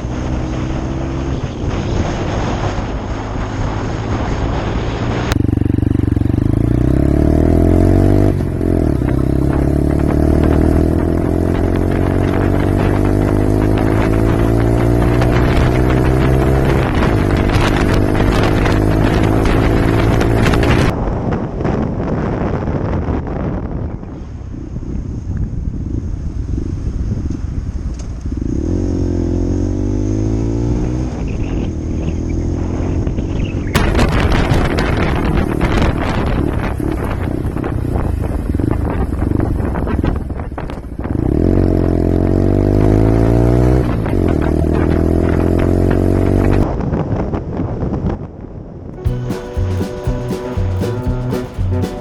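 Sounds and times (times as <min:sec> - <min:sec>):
motorcycle engine accelerating: 0:00.0 - 0:23.0, 0:25.8 - 0:46.7, 0:49.0 - 0:52.0
wind rushing over microphone: 0:00.0 - 0:52.0.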